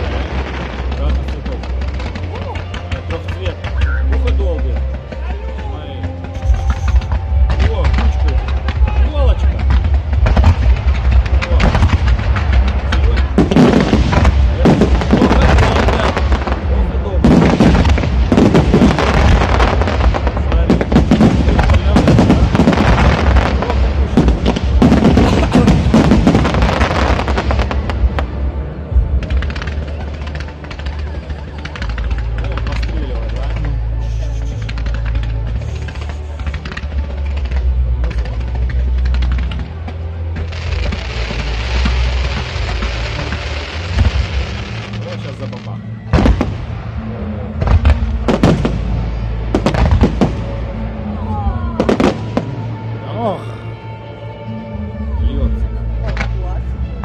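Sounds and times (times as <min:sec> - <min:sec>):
fireworks bangs and crackles: 0:00.0 - 0:53.0
music playing: 0:00.0 - 0:57.0.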